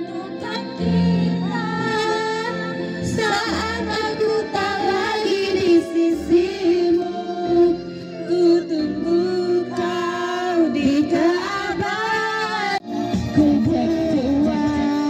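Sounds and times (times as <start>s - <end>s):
musical backing track: 0.0s - 15.0s
woman singing into microphone: 0.0s - 15.0s.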